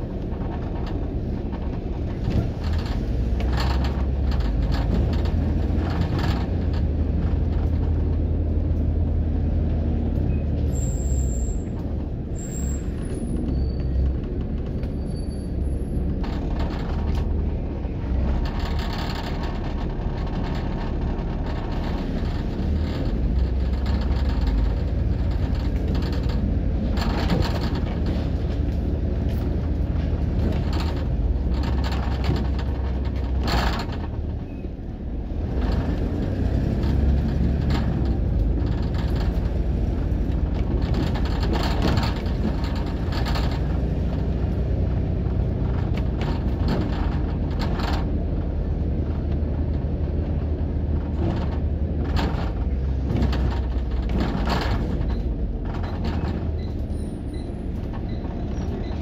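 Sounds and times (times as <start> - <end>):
bus engine drone: 0.0 - 59.0
road and cabin noise: 0.0 - 59.0.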